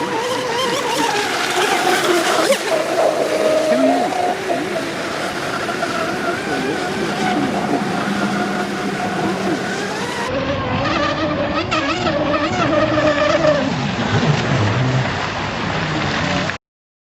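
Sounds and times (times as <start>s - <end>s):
model boat motor whining: 0.0s - 14.7s
water rushing: 0.0s - 16.6s.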